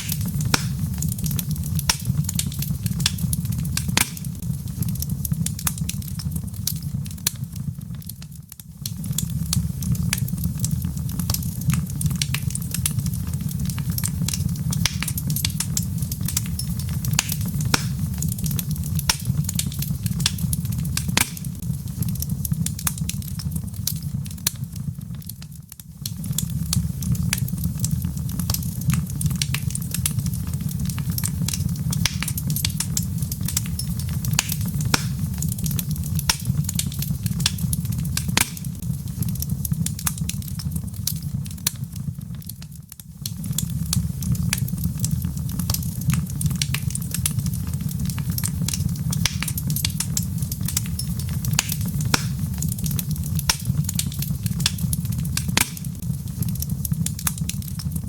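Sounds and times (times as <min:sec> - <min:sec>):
low rumble of flame: 0:00.0 - 0:58.0
wood crackling and popping: 0:00.0 - 0:58.0.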